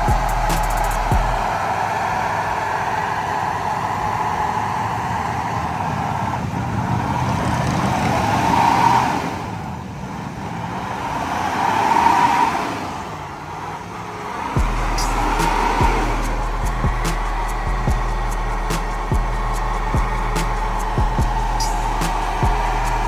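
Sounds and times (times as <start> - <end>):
motor vehicle engine and road noise: 0.0 - 23.0.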